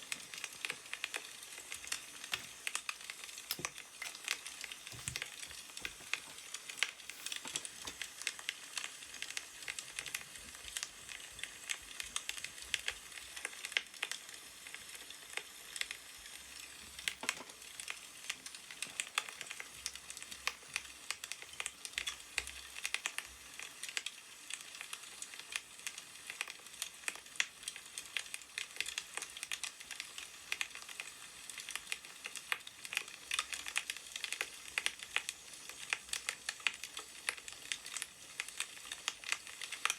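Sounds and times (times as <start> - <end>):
firewood crackling: 0.0 - 39.9.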